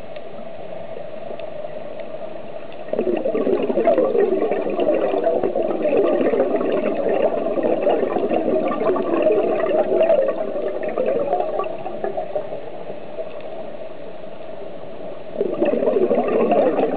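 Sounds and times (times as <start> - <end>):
underwater regulator bubbles gurgling: 2.5 - 16.9.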